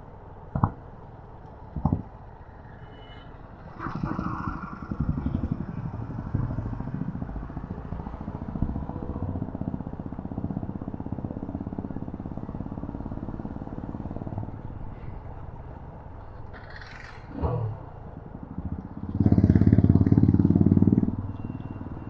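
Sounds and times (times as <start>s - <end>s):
motorcycle engine running: 4.2s - 22.0s.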